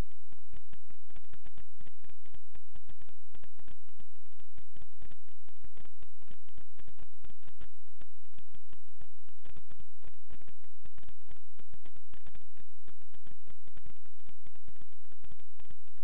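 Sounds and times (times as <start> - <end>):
crackling clicks: 0.0 - 16.0.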